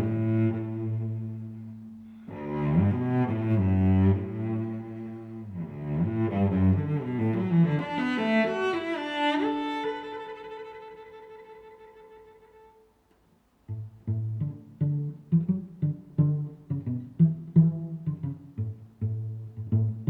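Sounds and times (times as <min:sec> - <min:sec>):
bowed strings music: 0:00.0 - 0:12.9, 0:13.6 - 0:20.0.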